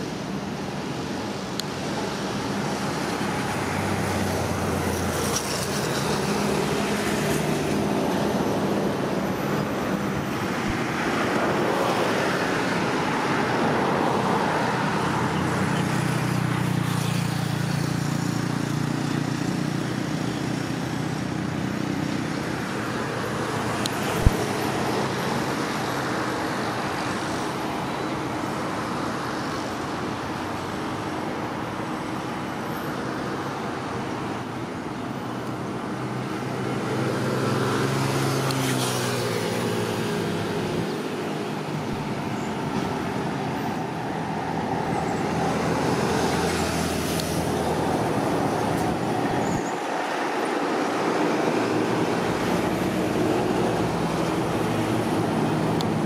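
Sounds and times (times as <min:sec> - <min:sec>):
road traffic: 0:00.0 - 0:56.0.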